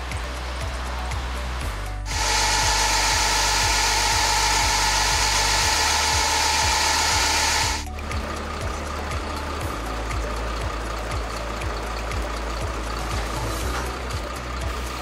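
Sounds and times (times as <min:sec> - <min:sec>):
background music with steady beat: 0:00.0 - 0:15.0
truck tyres whining on rollers: 0:00.0 - 0:15.0.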